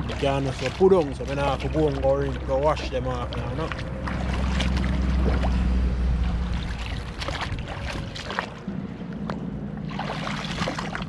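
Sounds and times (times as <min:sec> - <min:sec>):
low rumble: 0:00.0 - 0:11.0
water splashing and sloshing: 0:00.0 - 0:11.0.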